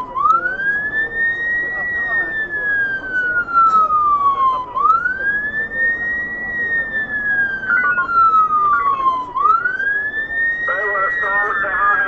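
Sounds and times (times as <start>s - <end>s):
fire engine siren wailing: 0.0s - 12.0s
truck road noise: 0.0s - 12.0s.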